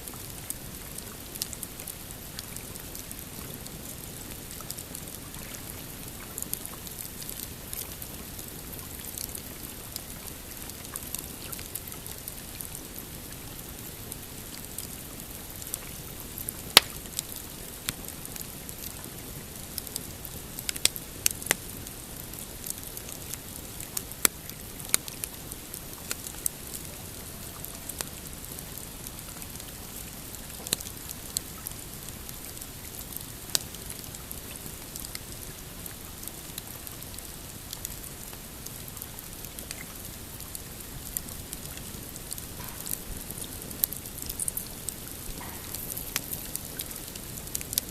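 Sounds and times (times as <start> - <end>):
campfire crackling and popping: 0.0 - 47.9
steady hiss: 0.0 - 47.9.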